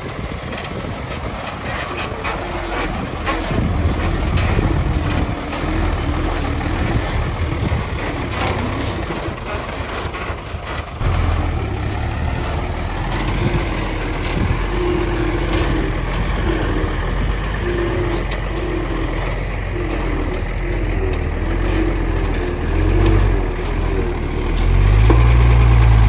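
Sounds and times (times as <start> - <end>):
diesel construction machine engine: 0.0 - 26.0.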